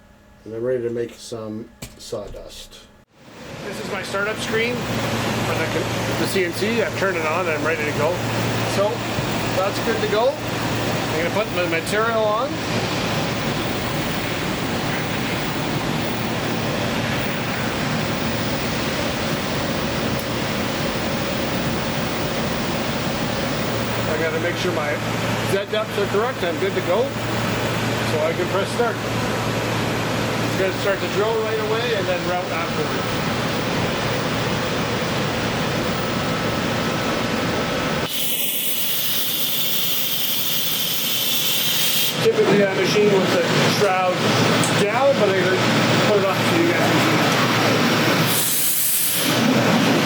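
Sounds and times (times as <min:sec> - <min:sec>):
high hiss with steady whine: 0:00.0 - 0:50.0
shop machinery rushing noise: 0:03.4 - 0:50.0.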